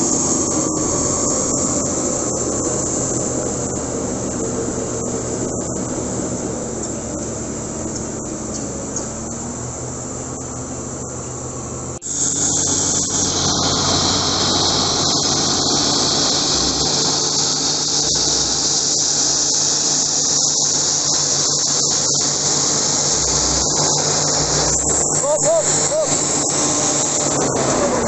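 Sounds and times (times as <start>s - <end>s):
high-pitched hiss: 0.0s - 11.4s, 12.0s - 28.0s
vehicle engine running: 0.0s - 28.0s.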